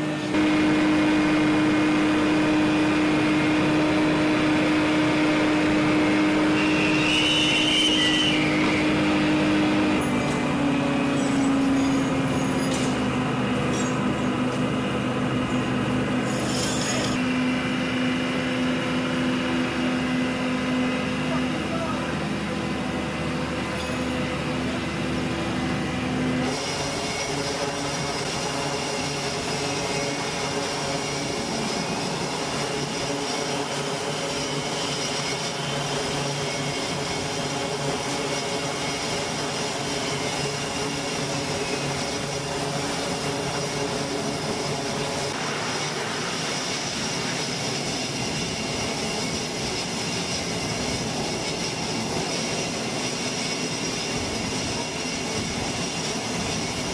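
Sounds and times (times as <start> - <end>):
steady mechanical hum: 0.0 - 56.9
turboprop engines droning: 0.0 - 56.9.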